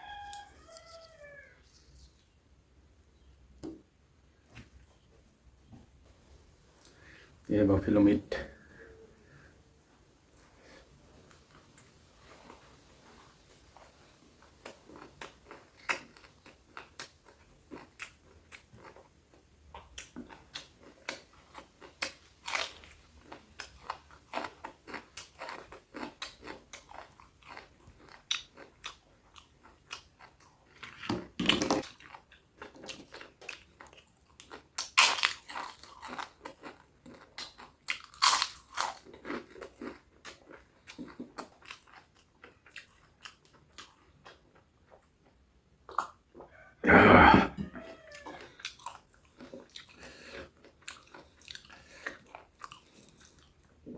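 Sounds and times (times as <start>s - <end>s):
crunching food: 0.0s - 2.1s, 11.3s - 46.5s, 47.6s - 53.9s
person chewing food: 0.0s - 2.1s, 6.6s - 7.5s, 10.2s - 53.9s.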